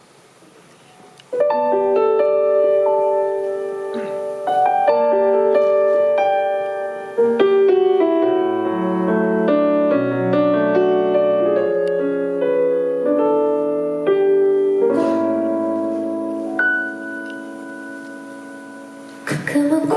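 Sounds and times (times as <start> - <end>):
piano chords: 0.9 - 19.9
low piano bass notes: 1.4 - 19.9.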